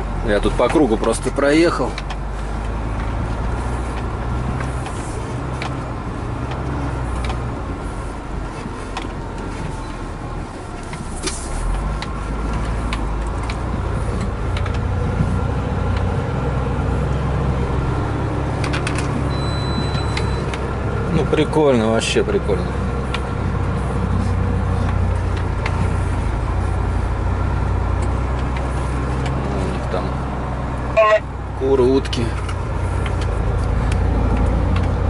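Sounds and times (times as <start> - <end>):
truck engine rumbling: 0.0 - 35.0.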